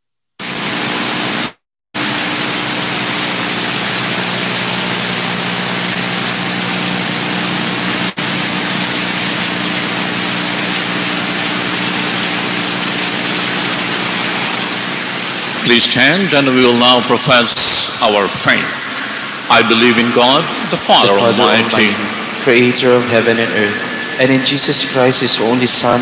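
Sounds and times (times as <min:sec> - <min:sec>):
static hiss: 0:00.4 - 0:26.0.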